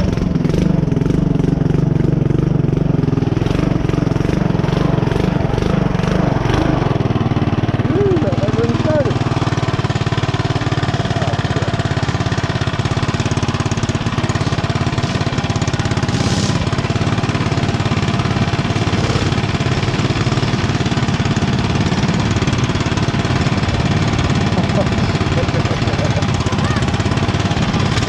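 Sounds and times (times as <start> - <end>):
small engine idling: 0.0 - 28.0.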